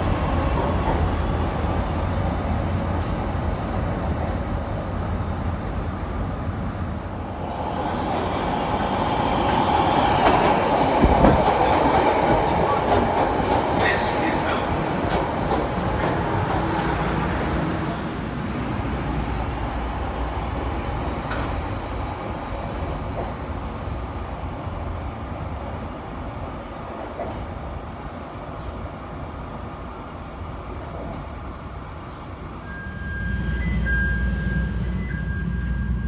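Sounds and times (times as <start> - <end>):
train wheels and motors rumbling: 0.0 - 36.0.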